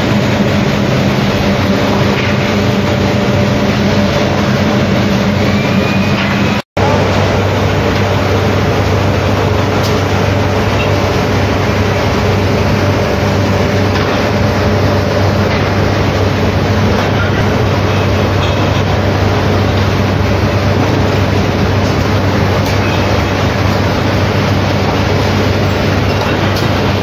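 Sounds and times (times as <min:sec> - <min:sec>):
low machine hum: 0:00.0 - 0:27.0
rolling mill roar: 0:00.0 - 0:27.0.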